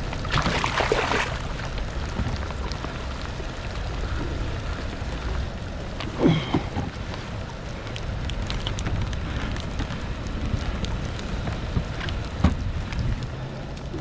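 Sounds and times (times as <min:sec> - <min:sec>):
light rain falling on water: 0:00.0 - 0:14.0.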